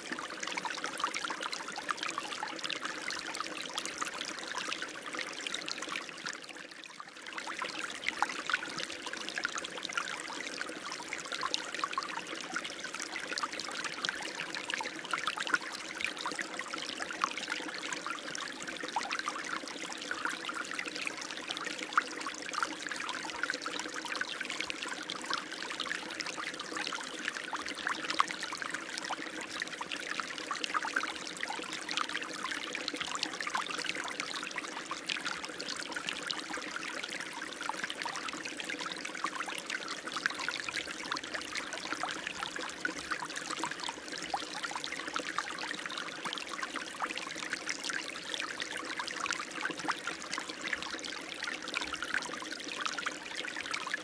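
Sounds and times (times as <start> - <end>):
stream flowing with splashes: 0.0 - 54.0.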